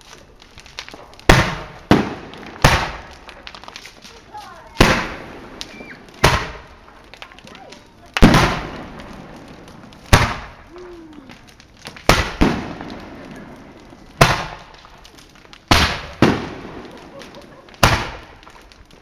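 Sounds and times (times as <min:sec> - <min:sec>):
fireworks bangs with echo: 0:00.8 - 0:19.0.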